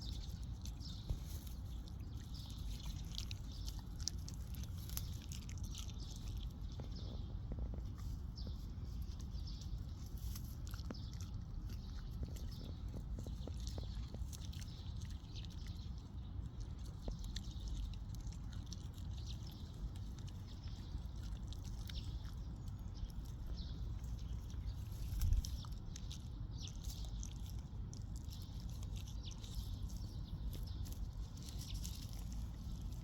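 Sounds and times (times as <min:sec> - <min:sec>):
dog chewing grass: 0:00.0 - 0:33.0.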